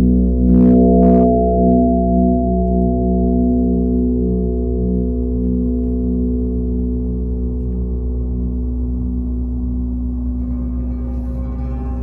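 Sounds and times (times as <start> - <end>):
sustained resonant drone: 0.0 - 12.0.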